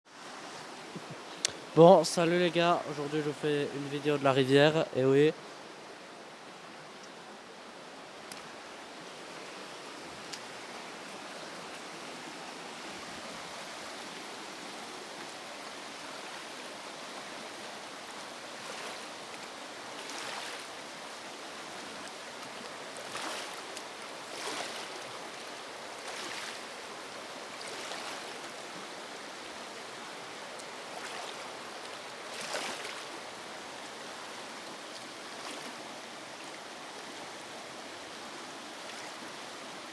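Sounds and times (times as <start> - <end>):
river water rushing: 0.1 - 39.9
water swishes: 5.4 - 39.9.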